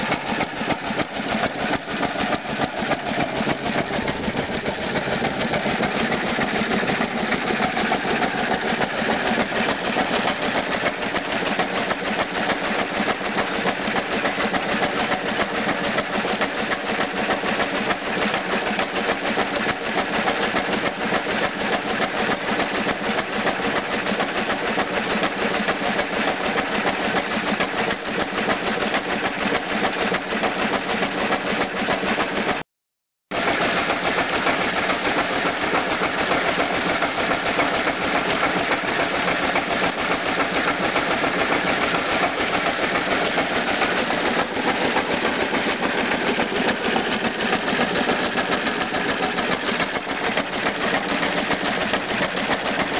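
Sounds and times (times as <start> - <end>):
engine and pump clattering: 0.0 - 32.6, 33.3 - 52.9.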